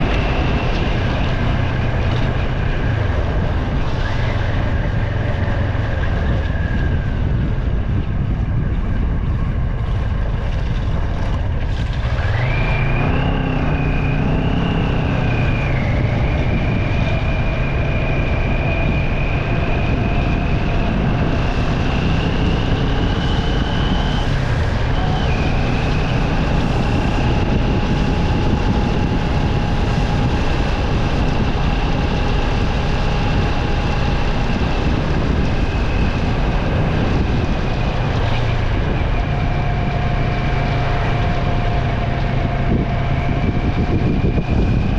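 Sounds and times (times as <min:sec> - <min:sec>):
rising whine: 0:00.0 - 0:44.9
vehicle driving on wet road: 0:00.0 - 0:44.9.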